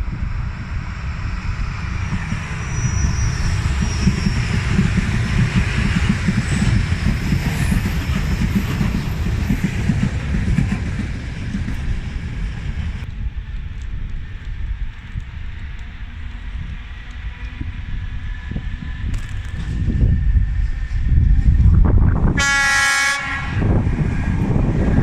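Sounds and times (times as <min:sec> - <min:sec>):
diesel train passing on rails: 0:00.0 - 0:25.0.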